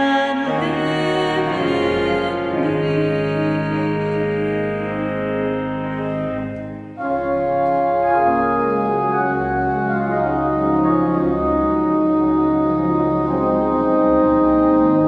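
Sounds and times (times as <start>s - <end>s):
church organ playing chords: 0.0s - 15.0s.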